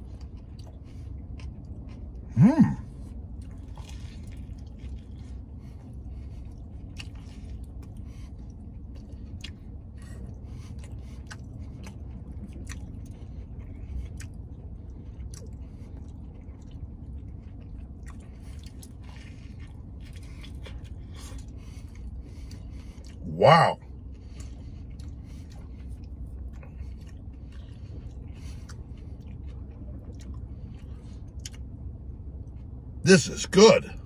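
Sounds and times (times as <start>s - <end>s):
man chewing food: 0.0s - 33.3s
steady low hum: 0.0s - 34.0s.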